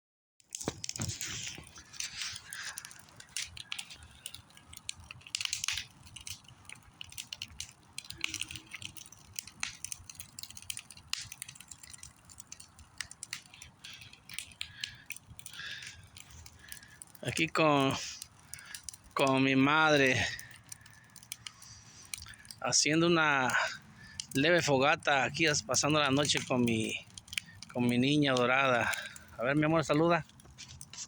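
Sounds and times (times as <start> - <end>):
campfire crackling: 0.4 - 31.0
hissy rushes of fire: 0.5 - 31.0.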